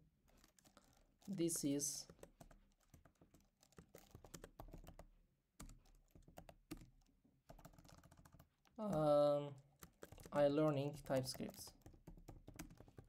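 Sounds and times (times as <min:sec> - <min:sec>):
typing on a keyboard: 0:00.3 - 0:13.0.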